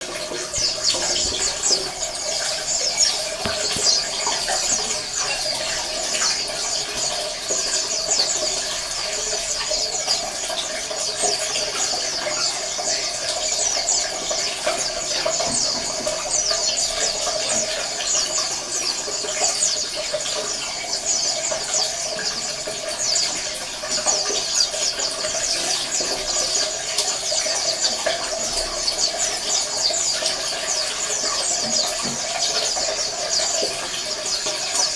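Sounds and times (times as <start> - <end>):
birds chirping and twittering: 0.0 - 34.9.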